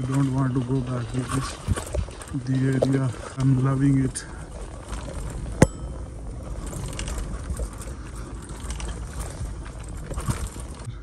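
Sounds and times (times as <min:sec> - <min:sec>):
bicycle tyres rumbling on dirt: 0:00.0 - 0:11.0.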